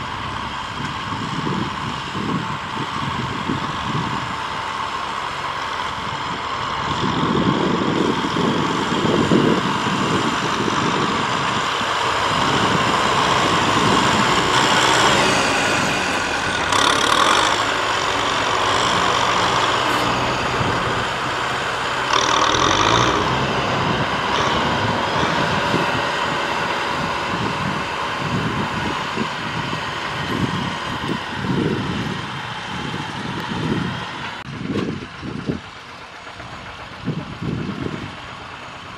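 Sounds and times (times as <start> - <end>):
tractor diesel engines running: 0.0 - 38.9.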